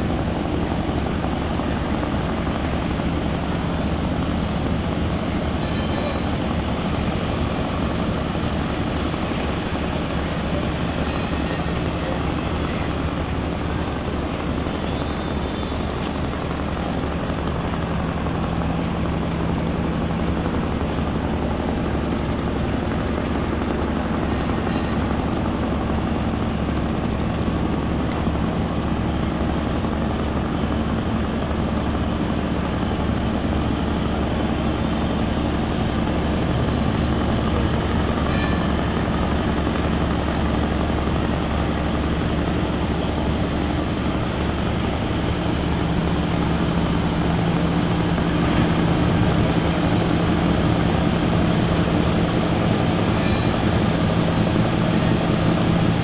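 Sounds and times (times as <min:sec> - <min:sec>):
boat diesel engines droning: 0:00.0 - 0:56.0.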